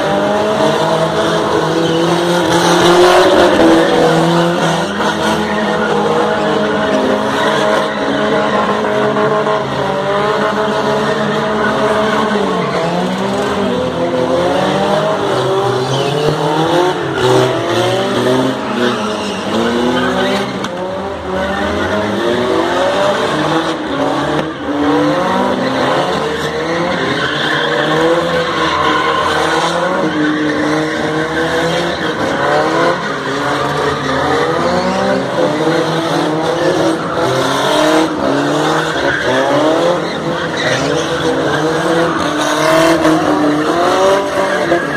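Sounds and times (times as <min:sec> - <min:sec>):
car engines revving: 0:00.0 - 0:44.9
tyres squealing on concrete: 0:01.1 - 0:09.6, 0:15.4 - 0:22.1, 0:23.3 - 0:44.9.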